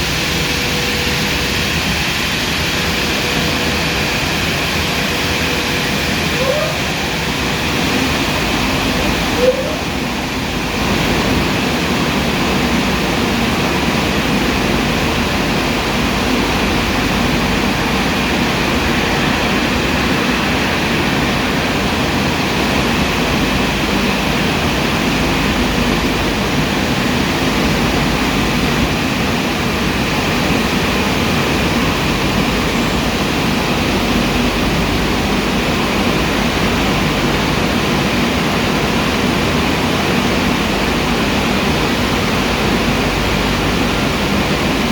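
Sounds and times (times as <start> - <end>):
car wash rushing noise: 0.0 - 44.9.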